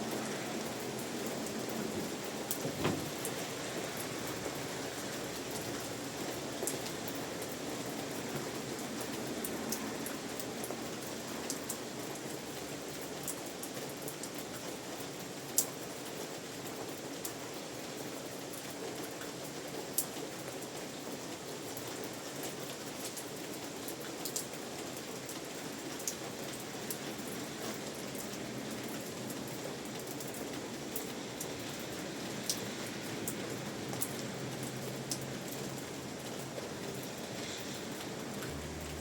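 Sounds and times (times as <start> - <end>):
raindrops dripping and tapping: 0.0 - 39.0
steady rain hiss: 0.0 - 39.0.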